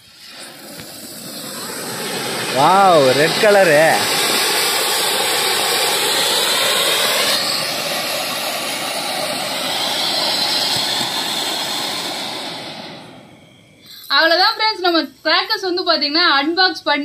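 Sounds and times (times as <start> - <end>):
firework fountain hissing: 0.0 - 17.0.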